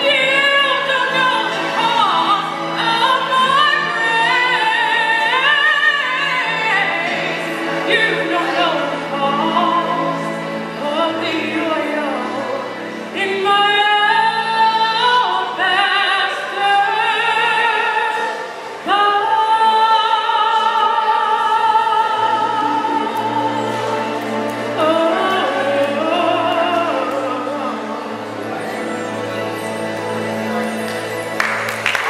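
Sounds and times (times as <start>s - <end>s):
sustained accompaniment: 0.0s - 32.0s.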